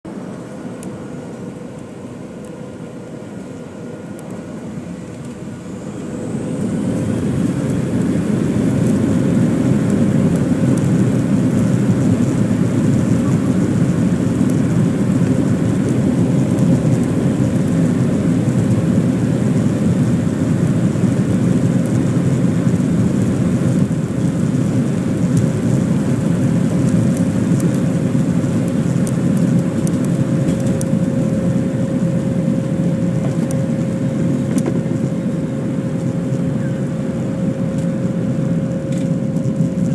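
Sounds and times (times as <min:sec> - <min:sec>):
jet engines spooling up: 0:00.2 - 0:39.9.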